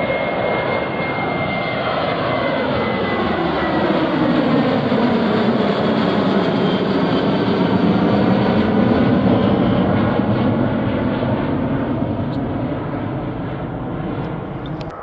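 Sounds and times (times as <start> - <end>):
airliner engines passing: 0.0 - 15.0.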